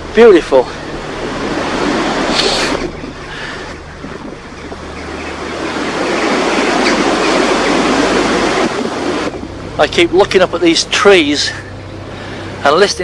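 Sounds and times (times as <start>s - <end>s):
strong wind rushing through trees: 0.0s - 13.0s.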